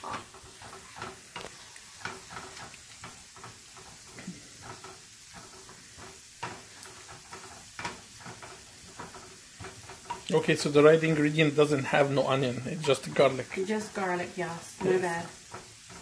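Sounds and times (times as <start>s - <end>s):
onion and garlic sizzling in pan: 0.0s - 16.0s
utensil scraping and knocking pan: 0.0s - 16.0s.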